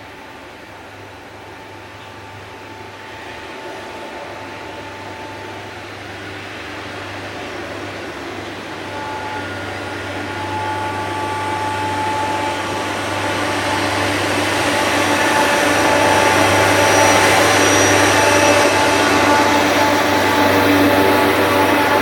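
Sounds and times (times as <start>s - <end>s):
faint steady whine: 0.0s - 22.0s
track maintenance machine running: 0.0s - 22.0s.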